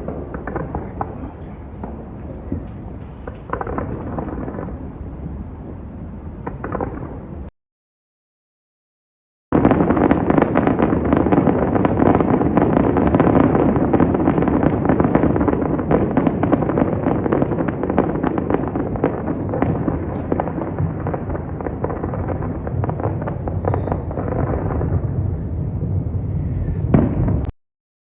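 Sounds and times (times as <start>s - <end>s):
fireworks bangs and crackles: 0.0s - 7.5s, 9.6s - 27.5s.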